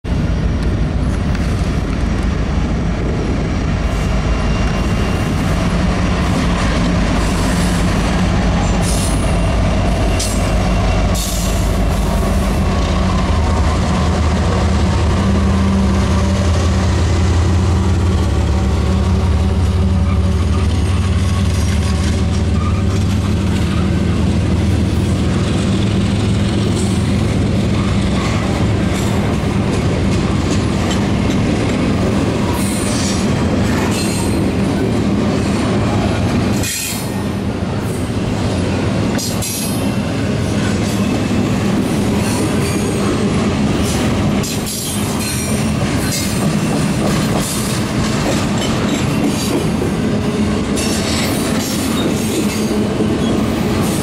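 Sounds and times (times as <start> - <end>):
diesel locomotive engines droning: 0.1 - 54.0
freight cars rolling on rails: 0.1 - 54.0.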